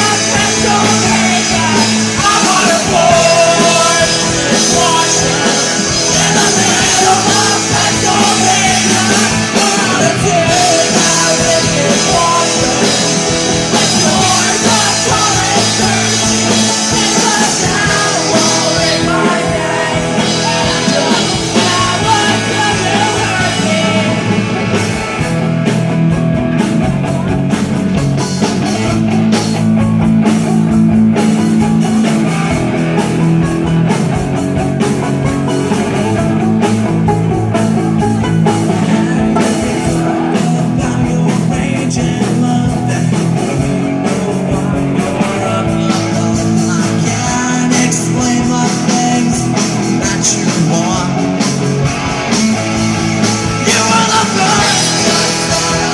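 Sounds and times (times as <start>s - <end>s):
person singing: 0.0s - 24.8s, 31.8s - 51.6s, 53.2s - 55.9s
drums with cymbal hits: 0.0s - 55.9s
electric guitars: 0.0s - 55.9s
live rock band playing: 0.0s - 55.9s.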